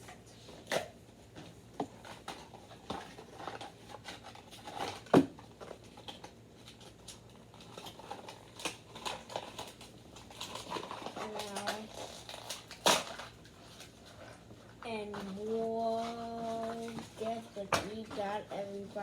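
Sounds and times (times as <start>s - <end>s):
packaging rustling and clicking: 0.6s - 19.0s.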